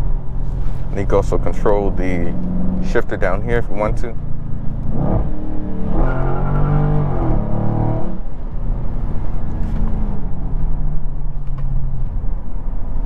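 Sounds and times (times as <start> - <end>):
car engine rumbling: 0.0 - 13.0
road noise: 0.0 - 13.0.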